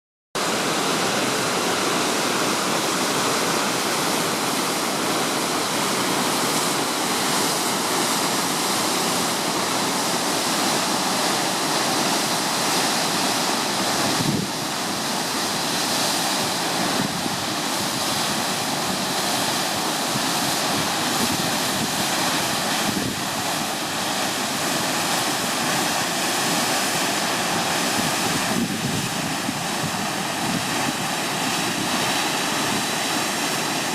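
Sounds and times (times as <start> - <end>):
waterfall roaring: 0.4 - 33.9.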